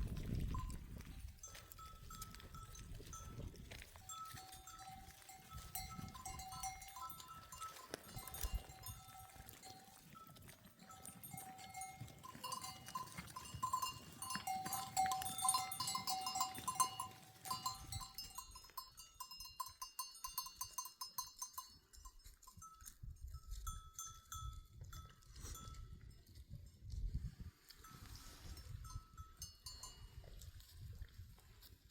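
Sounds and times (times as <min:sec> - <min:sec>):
livestock bells clinking: 0:00.0 - 0:26.8, 0:27.7 - 0:30.6.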